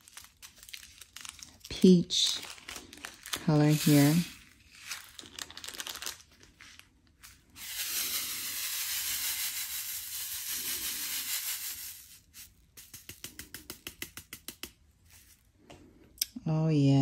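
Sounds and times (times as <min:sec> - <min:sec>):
beads rattling in plastic tray: 0:00.0 - 0:06.5, 0:07.2 - 0:14.4.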